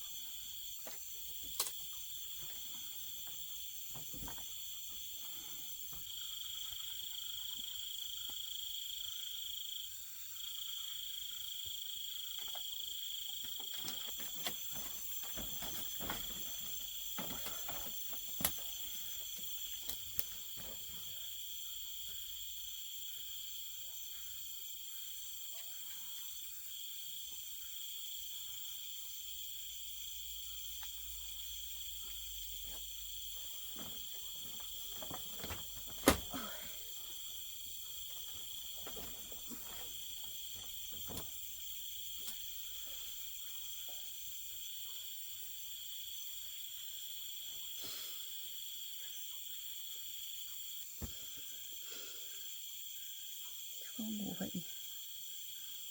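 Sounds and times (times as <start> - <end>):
night insects trilling: 0.0 - 55.9.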